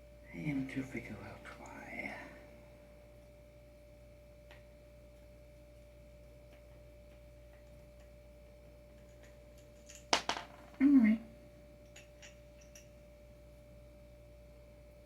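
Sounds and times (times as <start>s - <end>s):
faint high hum: 0.0s - 15.0s.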